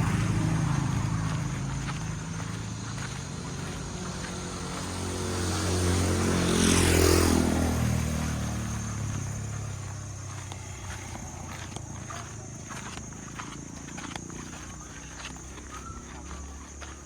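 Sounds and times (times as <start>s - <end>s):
vehicle engine driving past: 0.0s - 17.0s.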